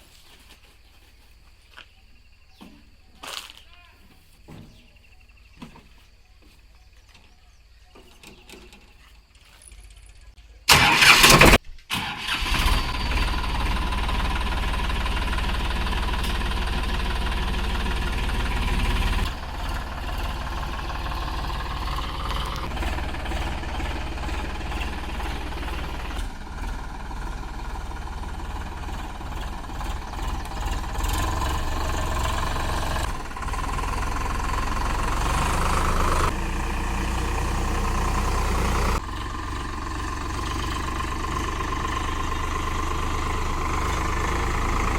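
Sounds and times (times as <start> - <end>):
diesel engine rumbling: 6.8 - 44.9.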